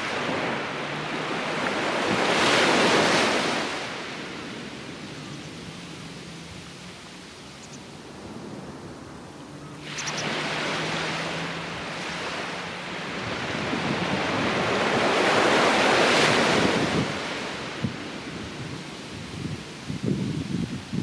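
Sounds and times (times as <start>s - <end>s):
surf breaking on sandy beach: 0.0s - 21.0s
wind on microphone: 0.0s - 21.0s.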